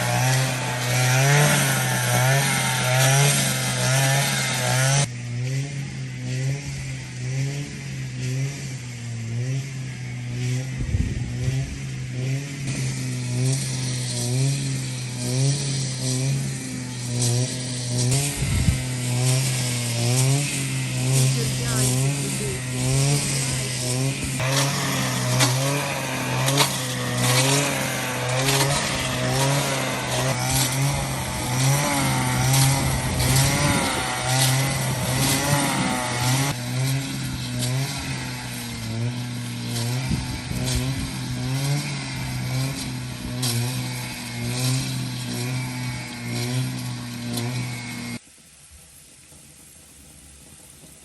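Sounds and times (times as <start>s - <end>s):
engine running: 0.0s - 48.3s.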